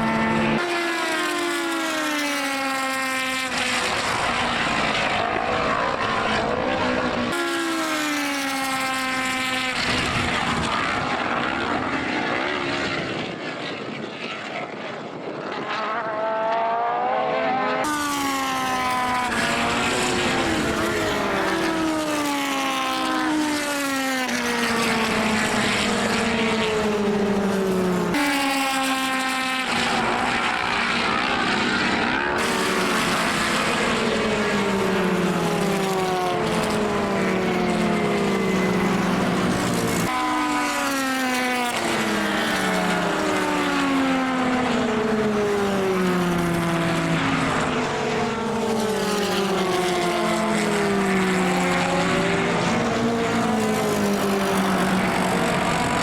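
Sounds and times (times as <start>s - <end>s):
racing car engines passing: 0.0s - 13.5s, 15.3s - 56.0s.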